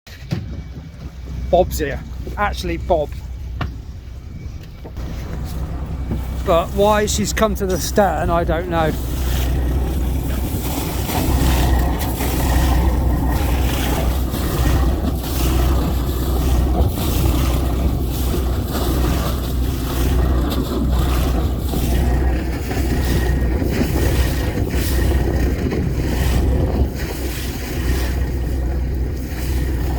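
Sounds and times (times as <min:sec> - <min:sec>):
steady low rumble: 0:00.1 - 0:29.9
wind buffeting microphone: 0:00.2 - 0:29.9.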